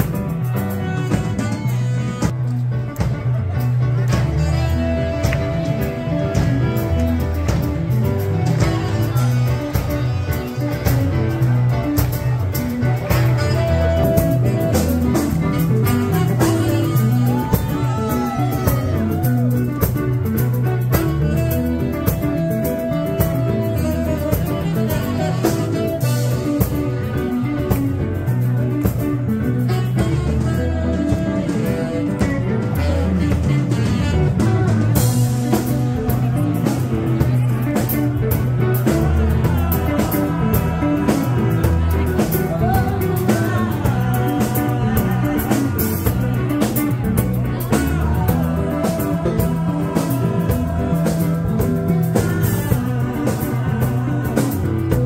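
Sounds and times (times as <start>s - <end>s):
live band playing blues rock: 0.0s - 55.0s
saxophone high held notes: 0.2s - 2.3s, 4.2s - 11.9s, 12.5s - 19.8s, 20.6s - 27.5s, 29.4s - 53.8s.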